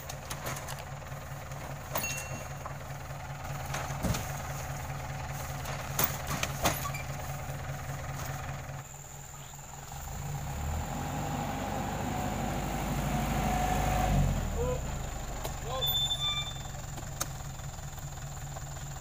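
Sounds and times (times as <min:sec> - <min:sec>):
lorry engine idling: 0:00.0 - 0:19.0.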